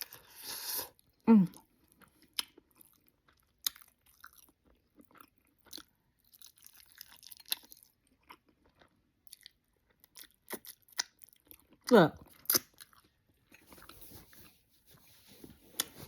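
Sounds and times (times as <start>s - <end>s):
person chewing with wet smacks: 0.0s - 14.4s.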